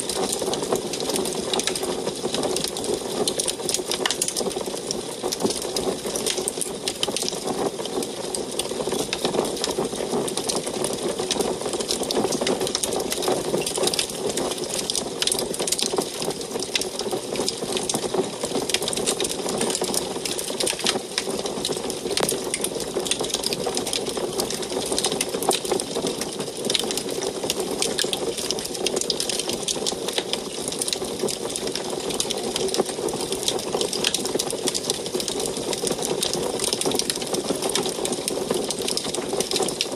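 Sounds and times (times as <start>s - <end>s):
burning logs crackling and popping: 0.0s - 39.9s.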